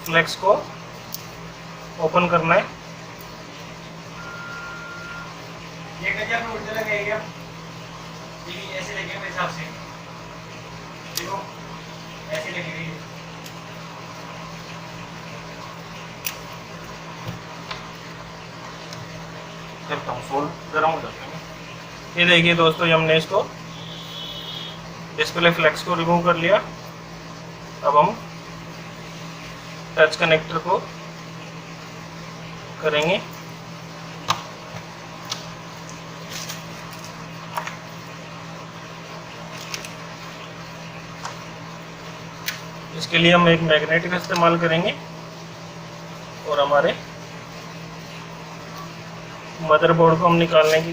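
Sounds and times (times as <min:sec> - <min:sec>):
low electrical hum: 0:00.0 - 0:50.9.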